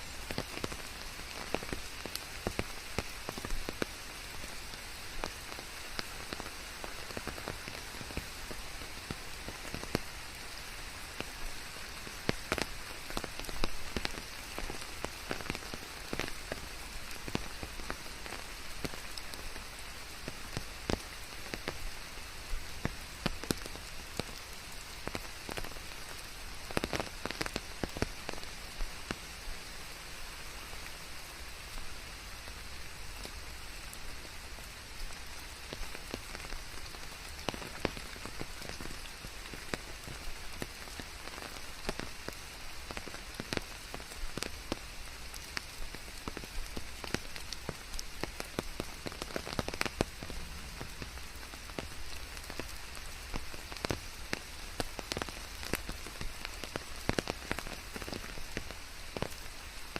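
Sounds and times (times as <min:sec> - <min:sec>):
raindrops striking close by: 0:00.0 - 0:59.9
steady rain hiss: 0:00.0 - 0:59.9.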